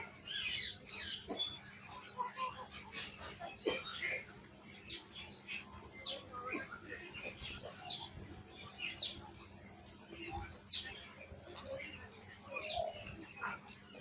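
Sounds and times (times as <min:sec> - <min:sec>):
soft bird chirps: 0:00.0 - 0:14.0.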